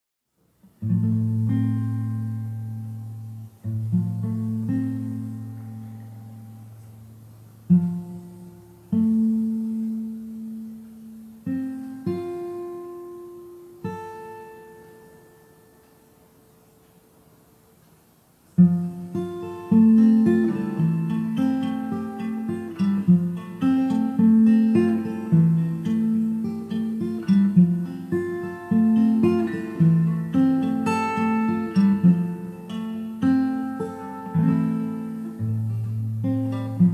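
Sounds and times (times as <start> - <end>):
acoustic guitar chords strummed: 0.6 - 36.9.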